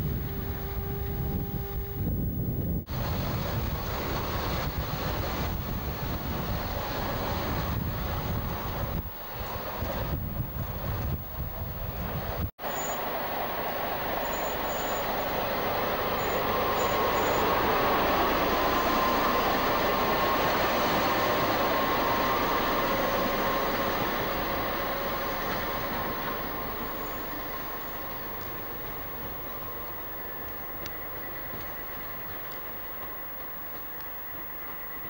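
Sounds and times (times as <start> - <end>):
diesel locomotive passing: 0.0 - 35.0
faint steady whine: 0.0 - 35.0.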